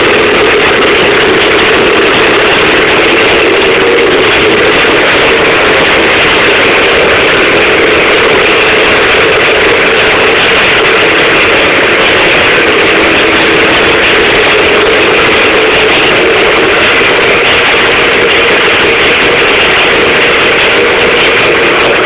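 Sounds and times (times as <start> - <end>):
two-stroke engine running: 0.0 - 22.0.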